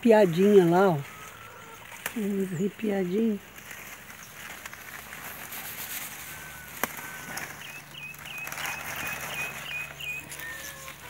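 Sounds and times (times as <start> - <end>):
bird chirping: 0.0 - 11.0
leaves rustling: 0.0 - 11.0.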